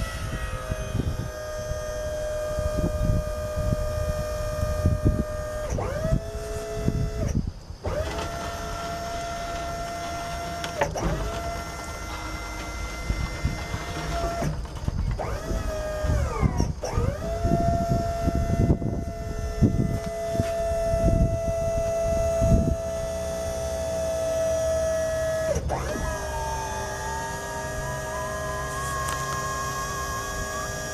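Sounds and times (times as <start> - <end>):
hydraulic pump motor whining: 0.0 - 30.9.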